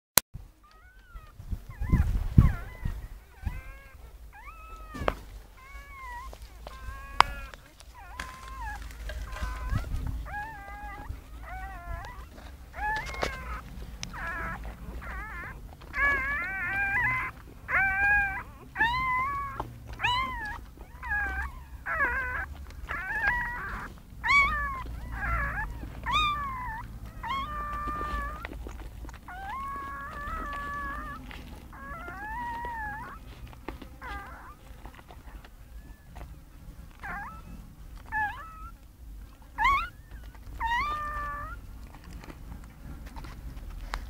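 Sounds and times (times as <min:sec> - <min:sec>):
puppy whining: 0:00.6 - 0:44.0.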